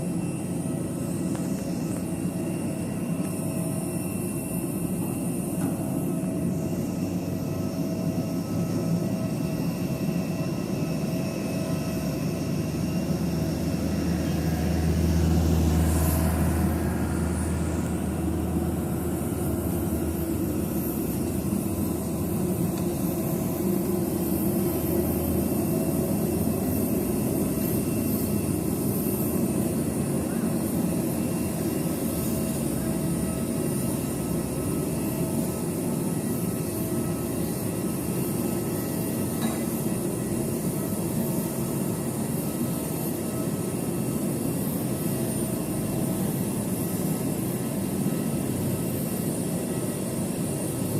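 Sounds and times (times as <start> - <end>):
turboprop engines droning: 0.0 - 50.9.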